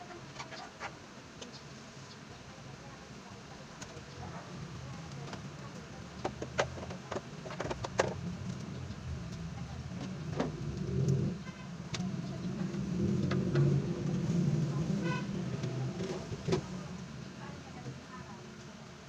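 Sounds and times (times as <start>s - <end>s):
low engine-like rumble: 2.4s - 19.0s.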